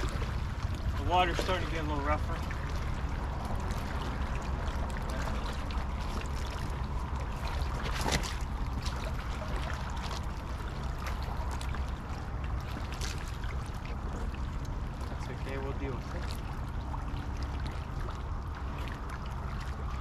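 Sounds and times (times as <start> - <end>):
low steady rumble: 0.0 - 20.0
water lapping against rocky bank: 0.0 - 20.0.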